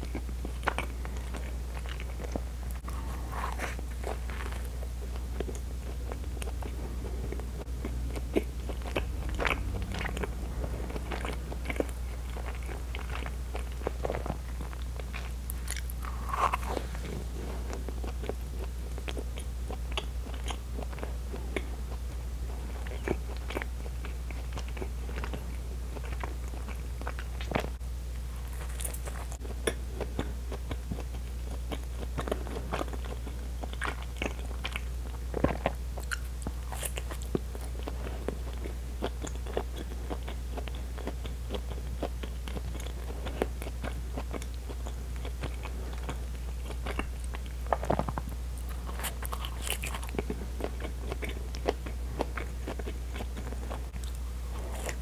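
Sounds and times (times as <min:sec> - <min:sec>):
chewing bread: 0:00.0 - 0:55.0
low hum: 0:00.0 - 0:55.0.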